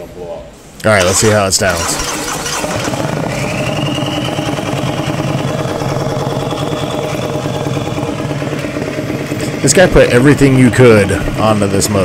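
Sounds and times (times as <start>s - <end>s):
high turbo whine: 1.0s - 12.0s
motorcycle engine running: 1.0s - 12.0s.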